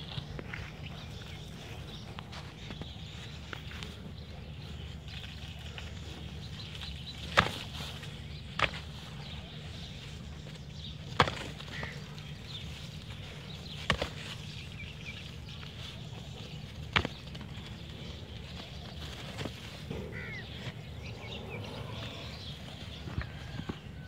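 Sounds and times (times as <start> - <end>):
goats butting heads: 0.0 - 24.0.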